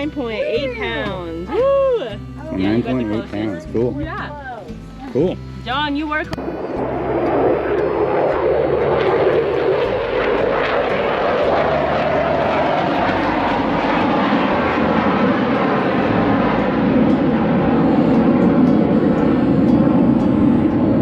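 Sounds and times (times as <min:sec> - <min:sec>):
aircraft engine passing overhead: 0:00.0 - 0:01.5, 0:04.6 - 0:21.0.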